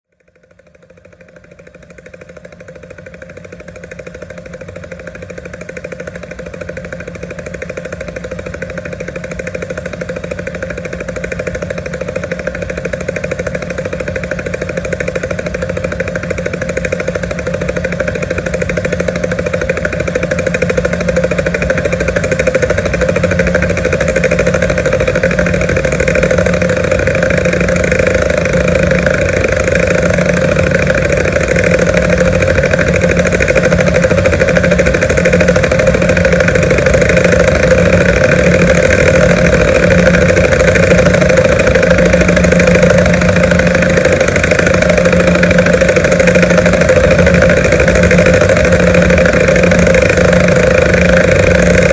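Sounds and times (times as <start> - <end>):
engine drone: 0.0 - 51.9
helicopter rotor beat: 0.1 - 51.9.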